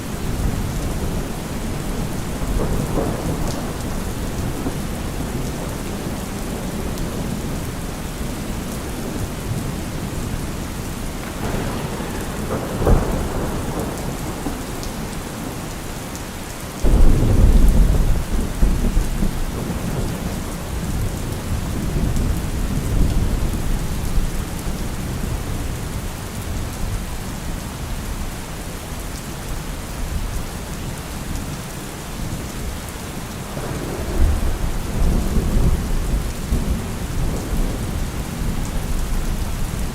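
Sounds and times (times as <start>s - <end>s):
thunder rumbling: 0.0s - 25.5s, 33.4s - 39.9s
steady rain: 0.0s - 39.9s.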